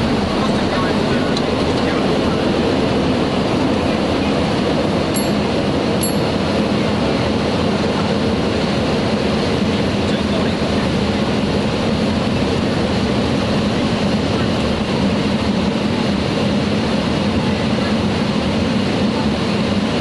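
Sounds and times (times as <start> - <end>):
jet engines rumbling: 0.0 - 20.0
rushing airflow: 0.0 - 20.0.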